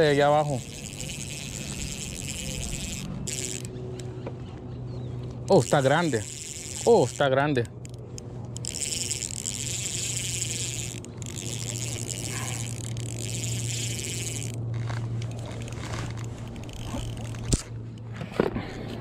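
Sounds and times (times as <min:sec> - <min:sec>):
fishing reel whirring: 0:00.0 - 0:03.8, 0:05.5 - 0:17.8
low steady hum: 0:00.0 - 0:19.0.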